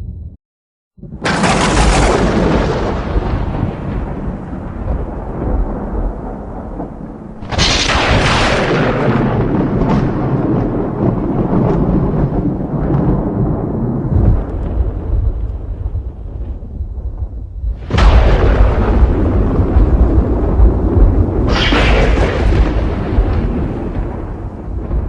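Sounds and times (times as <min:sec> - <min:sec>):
thunder clap and rumble: 0:01.0 - 0:25.0.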